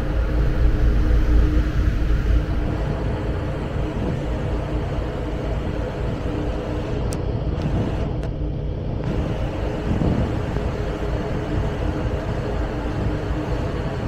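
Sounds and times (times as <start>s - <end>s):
hiss of passing water and air: 0.0s - 8.1s, 9.0s - 14.0s
ferry engines droning: 0.0s - 14.0s.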